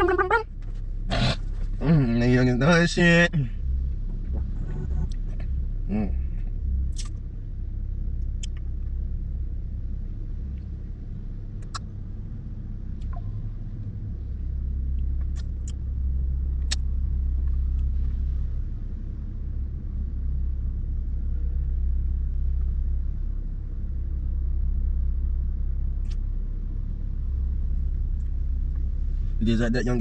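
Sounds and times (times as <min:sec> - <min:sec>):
car engine rumble: 0:00.0 - 0:30.0.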